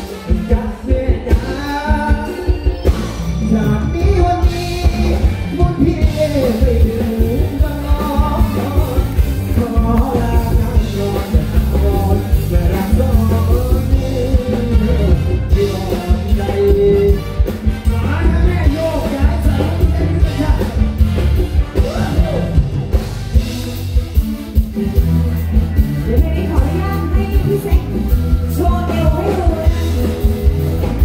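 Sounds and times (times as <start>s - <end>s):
man singing into microphone: 0.0s - 22.8s, 26.0s - 31.0s
live band with heavy beat: 0.0s - 31.0s.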